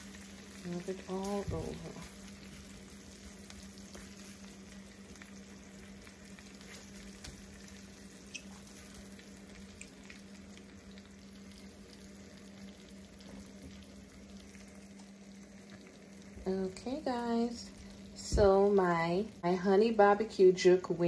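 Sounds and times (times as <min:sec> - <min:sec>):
glaze sizzling in a skillet: 0:00.0 - 0:21.0
steady low hum: 0:00.0 - 0:21.0.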